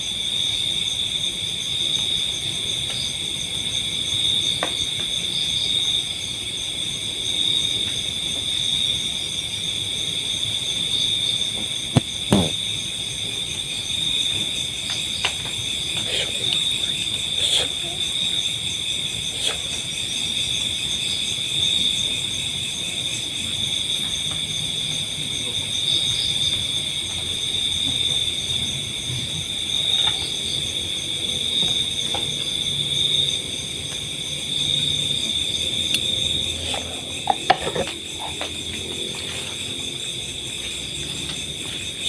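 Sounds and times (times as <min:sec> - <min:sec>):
crickets and insects trilling: 0:00.0 - 0:42.0.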